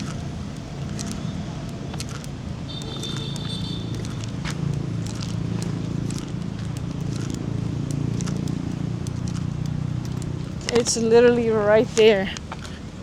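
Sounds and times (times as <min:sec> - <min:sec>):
scattered clicks: 0:00.0 - 0:11.1
footsteps: 0:01.9 - 0:12.8.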